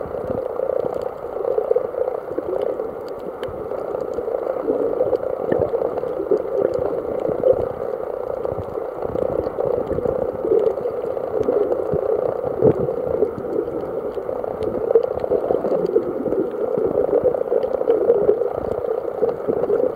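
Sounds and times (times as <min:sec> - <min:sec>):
faint crackles: 0:00.0 - 0:19.9
underwater rushing: 0:00.0 - 0:19.9.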